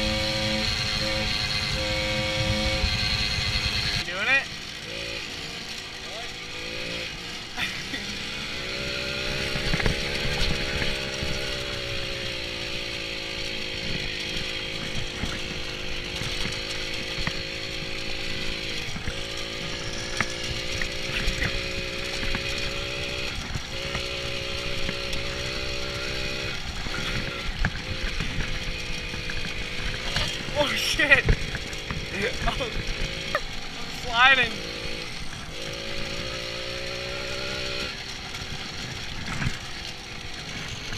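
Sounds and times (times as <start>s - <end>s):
bike rattling over rough ground: 0.0s - 40.9s
moped engine running: 0.0s - 40.9s.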